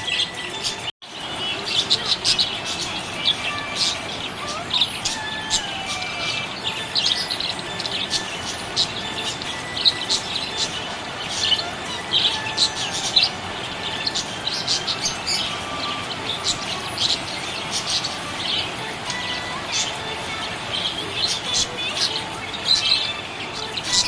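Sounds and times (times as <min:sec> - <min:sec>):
budgerigars chirping: 0:00.0 - 0:24.0.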